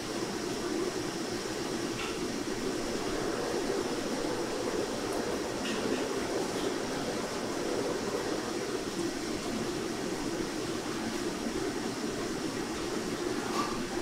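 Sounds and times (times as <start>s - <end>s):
commercial kitchen background noise: 0.0s - 14.0s.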